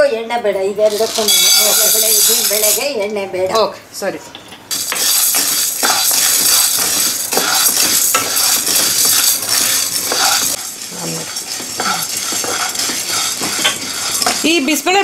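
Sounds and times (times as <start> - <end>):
dry lentils scraping in pan: 0.9 - 2.8, 4.7 - 15.0.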